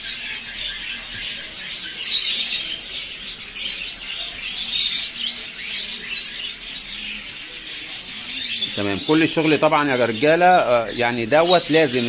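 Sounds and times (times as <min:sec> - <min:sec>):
cage birds twittering: 0:00.0 - 0:12.0.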